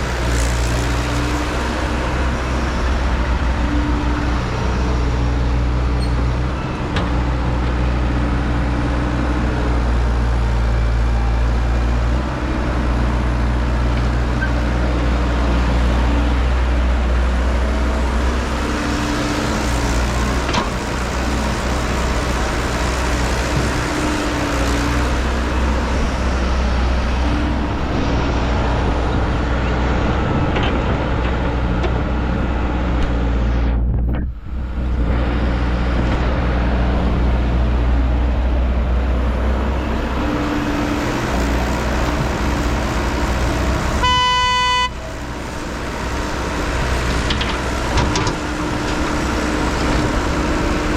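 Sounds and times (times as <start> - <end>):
diesel engine rumbling: 0.0 - 50.9.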